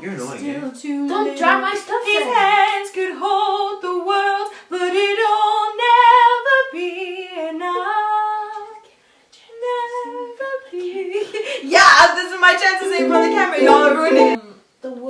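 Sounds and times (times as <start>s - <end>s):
woman singing unaccompanied: 0.4s - 15.0s.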